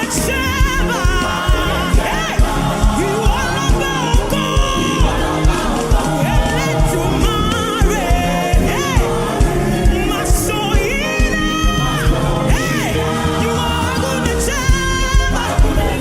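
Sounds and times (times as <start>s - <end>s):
band with steady drum beat: 0.0s - 16.0s
singers with sustained vocals: 0.0s - 16.0s.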